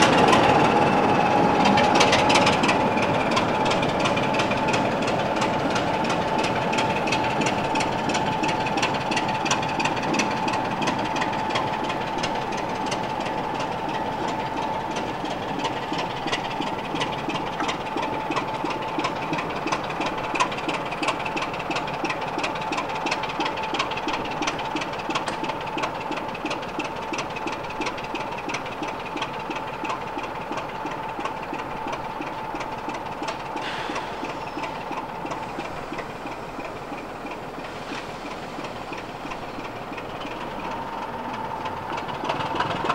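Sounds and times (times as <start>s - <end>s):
diesel locomotive engine clatter: 0.0s - 42.9s.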